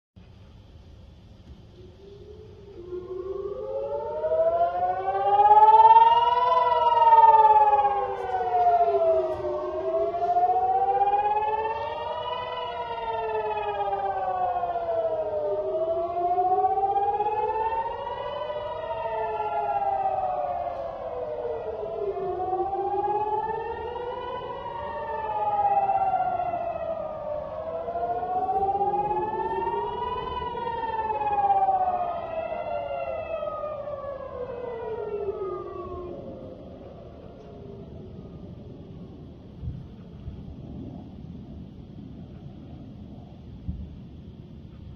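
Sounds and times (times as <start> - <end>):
air-raid siren wailing: 1.0 - 44.9.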